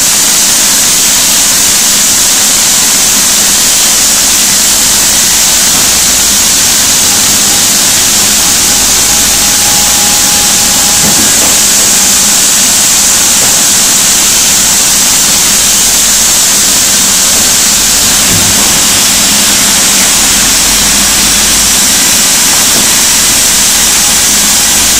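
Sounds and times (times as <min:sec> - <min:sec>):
sawmill machinery hissing: 0:00.0 - 0:24.9
faint whine: 0:01.5 - 0:24.9.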